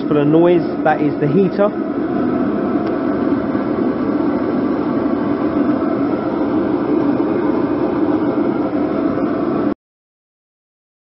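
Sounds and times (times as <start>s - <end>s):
heater running: 0.0s - 9.8s.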